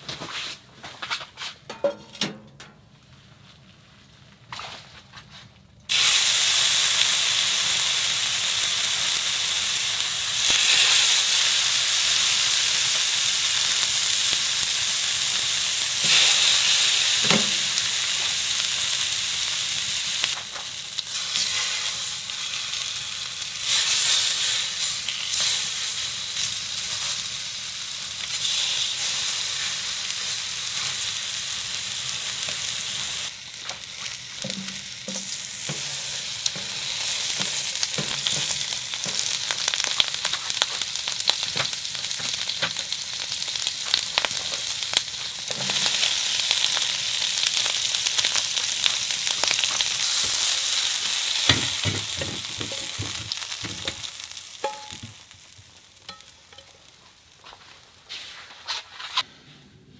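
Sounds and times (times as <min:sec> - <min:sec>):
food sizzling in a pan: 0:05.9 - 0:58.7.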